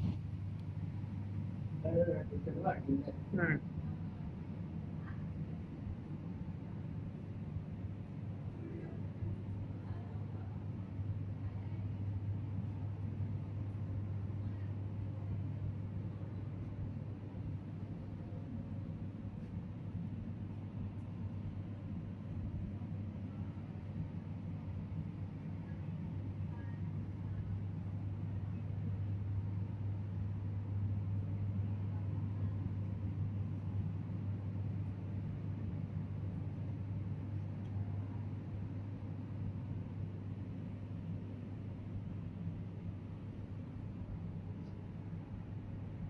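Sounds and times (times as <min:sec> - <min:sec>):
low hum and rumble: 0:00.0 - 0:46.0.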